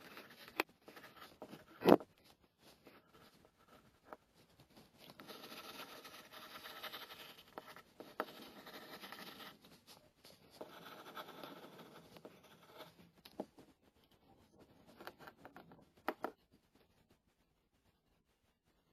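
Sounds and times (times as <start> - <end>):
pencil scratching on paper: 0.0 - 17.4.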